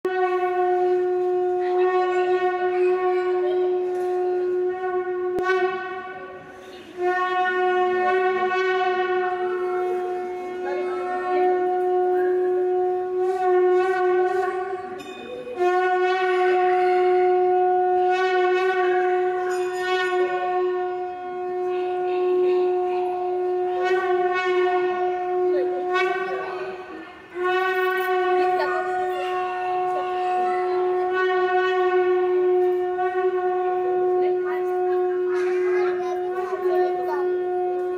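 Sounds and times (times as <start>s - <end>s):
conch shell blasts: 0.0s - 37.9s.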